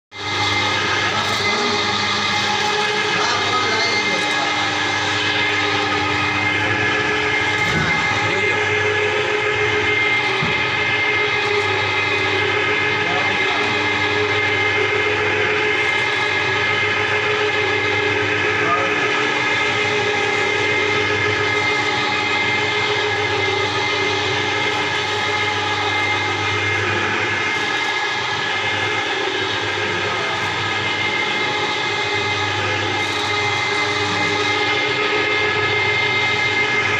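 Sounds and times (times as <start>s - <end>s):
mixer hum with high whine: 0.1s - 36.9s.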